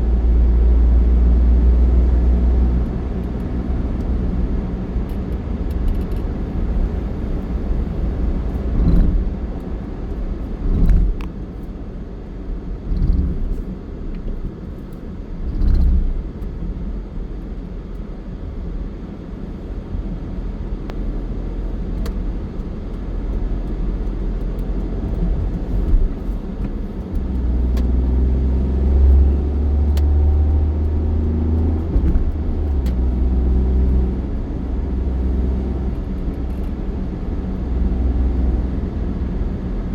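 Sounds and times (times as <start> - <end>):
motor vehicle rumbling: 0.0 - 39.9.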